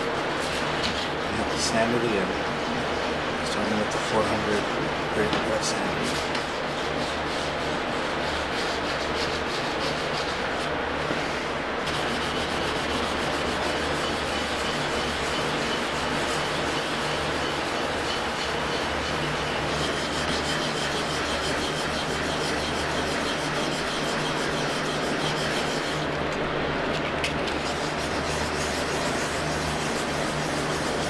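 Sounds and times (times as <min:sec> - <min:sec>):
sanding rasp on wood: 0:00.0 - 0:10.7, 0:11.8 - 0:26.2, 0:27.5 - 0:31.0
low motor-like hum: 0:00.0 - 0:31.0.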